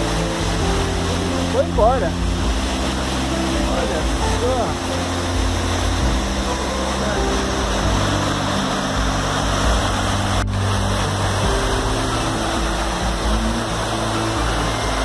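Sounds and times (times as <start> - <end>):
low steady tones: 0.0 - 15.0
water rushing over rocks: 0.0 - 15.0.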